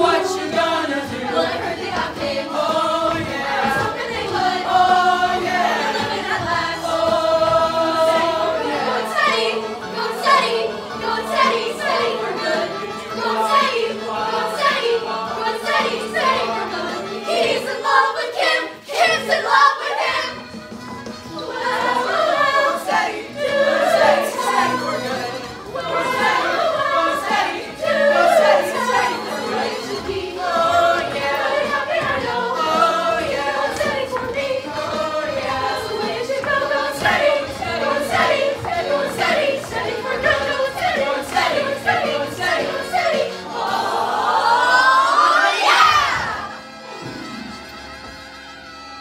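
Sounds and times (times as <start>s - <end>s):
a cappella ensemble singing: 0.0s - 20.4s, 21.3s - 46.8s.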